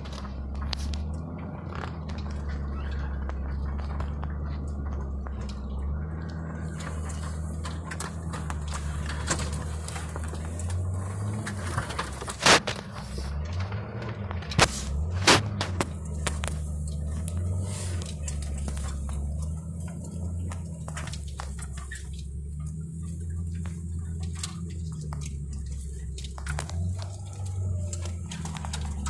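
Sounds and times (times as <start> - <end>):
branches scraping against truck: 0.0 - 29.0
truck engine running: 0.0 - 29.0.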